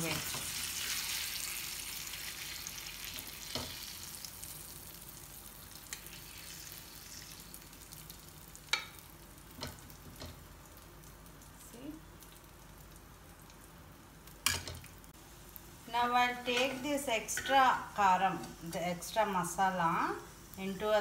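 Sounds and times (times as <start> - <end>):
oil sizzling in a frying pan: 0.0 - 21.0.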